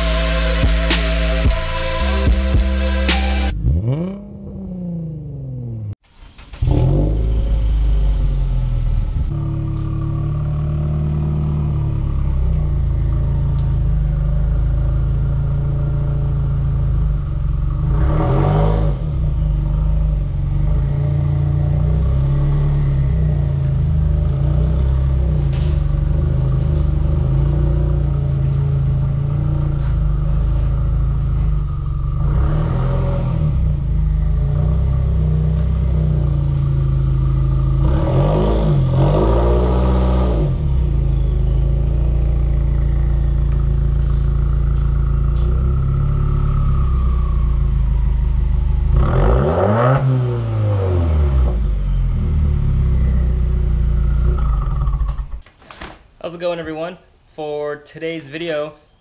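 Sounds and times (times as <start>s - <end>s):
car exhaust rumbling: 0.0s - 55.4s
engine throttle blips: 1.4s - 55.4s.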